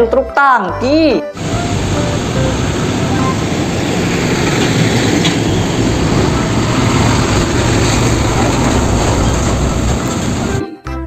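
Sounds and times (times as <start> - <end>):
truck engine and road noise: 1.4 - 10.6.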